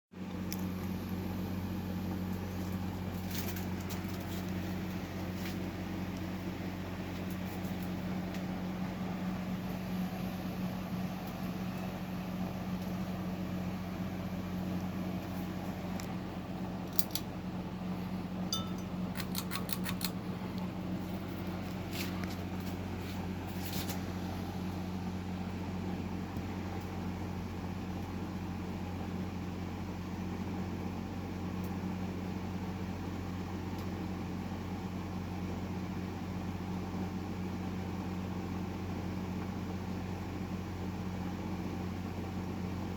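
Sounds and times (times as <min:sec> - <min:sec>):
ceiling fan motor hum: 0:00.2 - 0:42.9.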